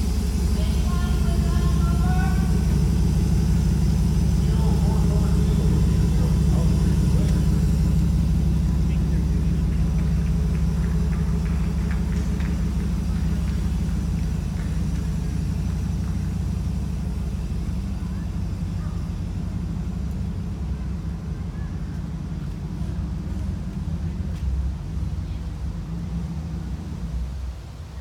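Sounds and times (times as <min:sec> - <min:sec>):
faint voices: 0:00.0 - 0:28.0
vehicle engine idling: 0:00.0 - 0:28.0.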